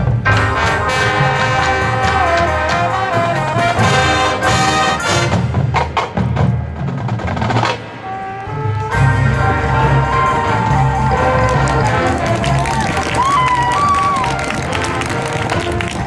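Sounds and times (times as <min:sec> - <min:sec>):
brass horns: 0:00.0 - 0:06.1, 0:07.6 - 0:16.0
drums: 0:00.0 - 0:16.0.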